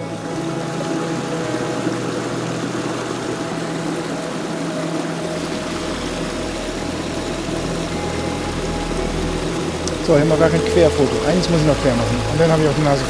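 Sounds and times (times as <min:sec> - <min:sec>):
soft ambient music chord: 0:00.0 - 0:13.0
stream rushing over stones: 0:00.0 - 0:13.0.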